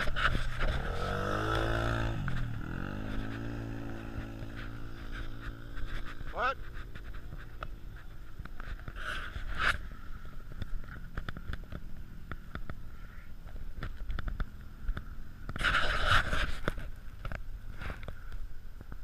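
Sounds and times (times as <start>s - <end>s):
quad engine droning: 0.0s - 19.0s.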